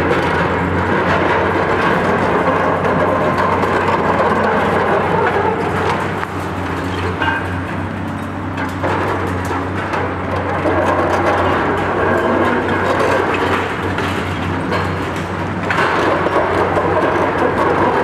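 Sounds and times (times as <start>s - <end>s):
concrete and steel crunching: 0.0s - 18.0s
excavator diesel engines: 0.0s - 18.0s.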